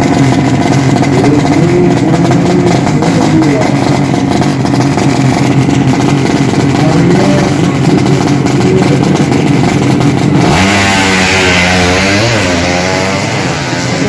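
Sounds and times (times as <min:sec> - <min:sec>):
motorcycle engines revving hard: 0:00.0 - 0:14.0.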